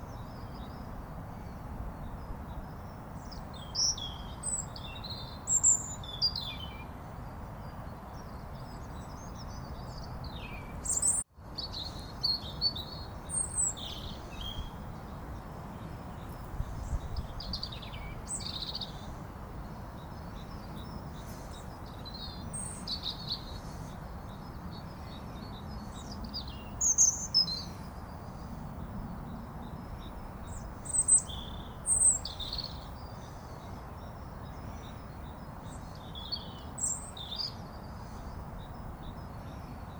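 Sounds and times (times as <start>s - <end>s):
low background noise: 0.0s - 39.9s
small birds chirping: 0.0s - 39.9s.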